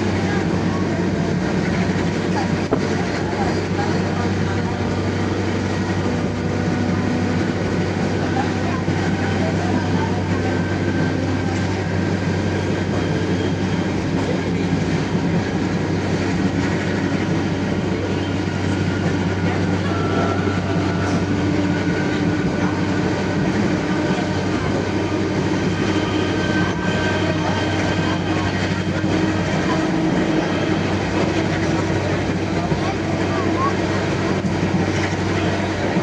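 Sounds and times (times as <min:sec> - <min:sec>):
train rumbling along track: 0:00.0 - 0:36.0.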